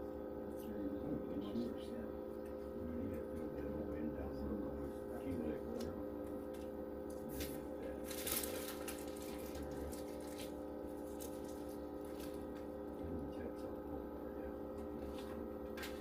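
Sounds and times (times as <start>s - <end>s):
machine humming with low drone: 0.0s - 16.0s.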